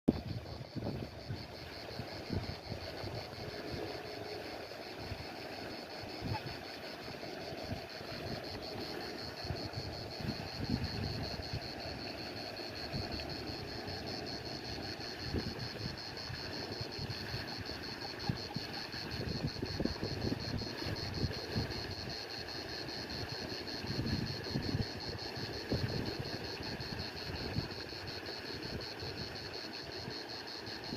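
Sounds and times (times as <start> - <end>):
wind rumbling on microphone: 0.1 - 30.9.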